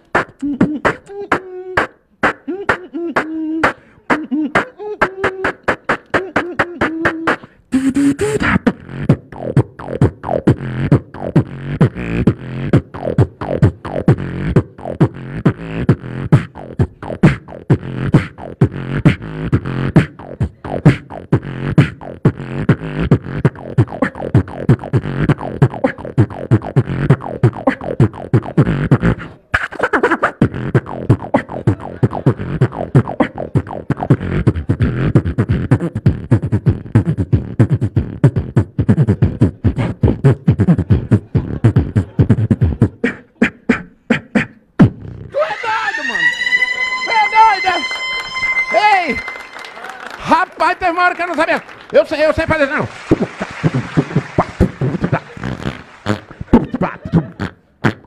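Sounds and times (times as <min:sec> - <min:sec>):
person beatboxing into microphone: 0:00.0 - 0:45.4, 0:52.4 - 0:58.0.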